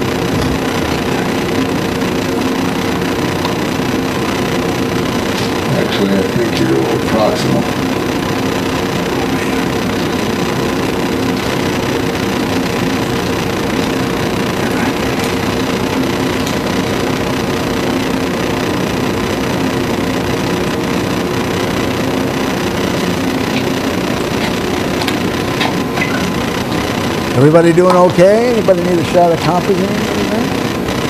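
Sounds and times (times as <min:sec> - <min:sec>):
held low tones: 0:00.0 - 0:31.0
room noise hum and hiss: 0:00.0 - 0:31.0.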